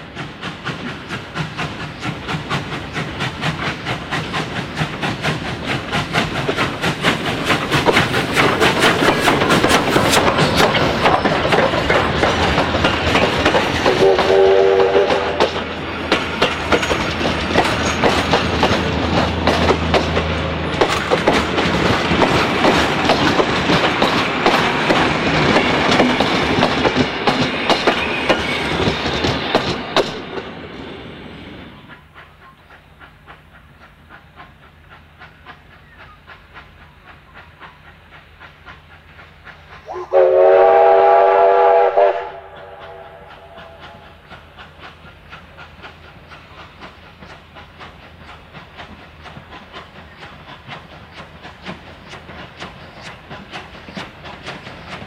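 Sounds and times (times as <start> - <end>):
distant train beats: 0.0 - 55.0
train rumble: 0.0 - 55.0
train wheels clicking over rail joints: 0.0 - 55.0.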